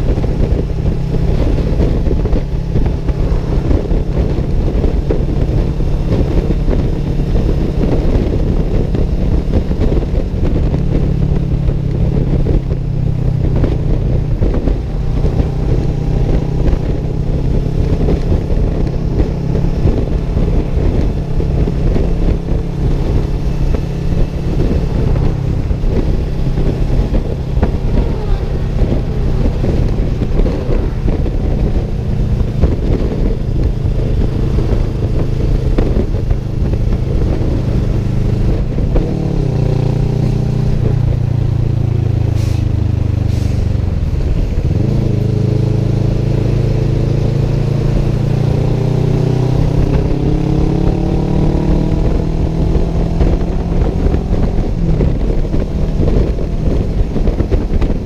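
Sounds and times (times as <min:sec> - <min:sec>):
road and wind noise: 0:00.0 - 0:58.0
vehicle engine hum: 0:00.0 - 0:58.0.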